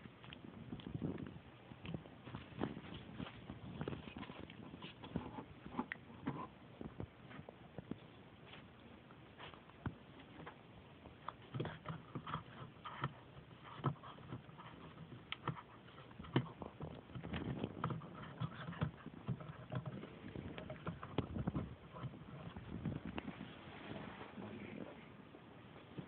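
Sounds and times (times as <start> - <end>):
puppy teeth chewing wood: 0.0 - 23.4.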